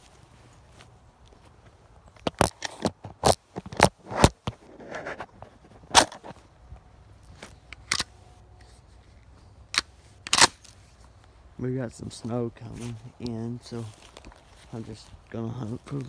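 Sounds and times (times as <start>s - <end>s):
branches scraping and snapping: 0.0s - 6.5s, 7.2s - 11.4s, 12.6s - 16.0s.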